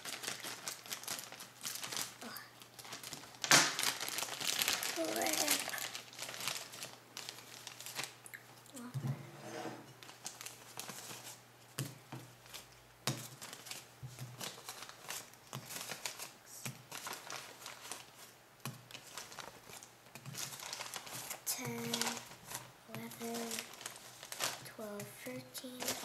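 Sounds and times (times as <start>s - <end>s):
plastic bag crinkling: 0.0s - 8.9s, 10.0s - 11.4s, 12.4s - 26.0s.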